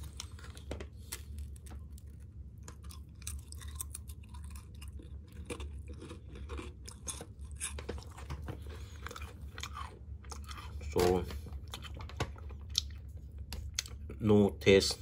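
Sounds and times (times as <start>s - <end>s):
person crunching a cracker: 0.0s - 14.2s.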